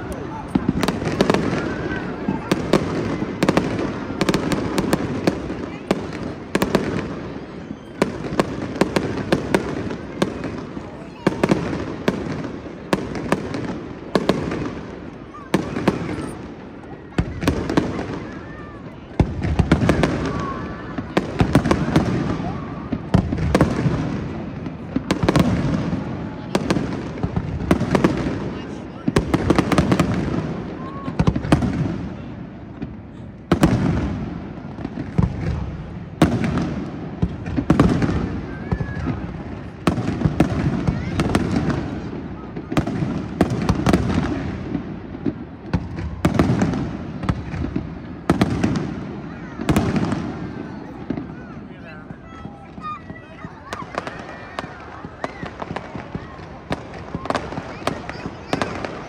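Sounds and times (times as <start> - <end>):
fireworks bangs echoing: 0.0 - 59.0.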